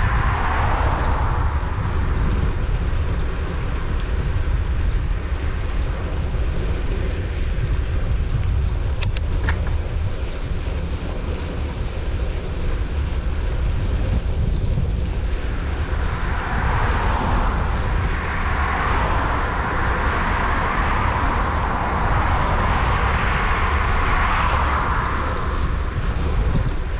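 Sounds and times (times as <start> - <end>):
car approaching on road: 0.0 - 26.9
wind buffeting microphone: 0.0 - 26.9.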